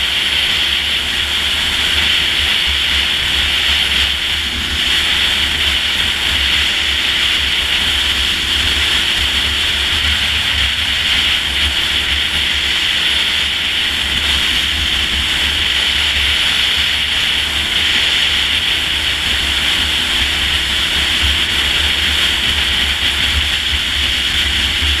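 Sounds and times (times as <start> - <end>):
motorcycle engine drone: 0.0 - 25.0
wind rushing on microphone: 0.0 - 25.0.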